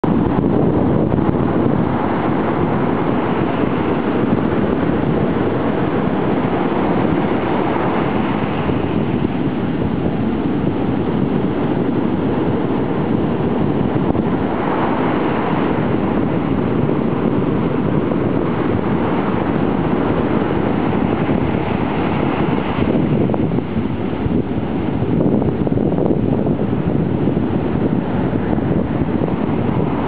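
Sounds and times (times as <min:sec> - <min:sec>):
heavy ocean surf breaking: 0:00.0 - 0:30.0
wind buffeting microphone: 0:00.0 - 0:30.0.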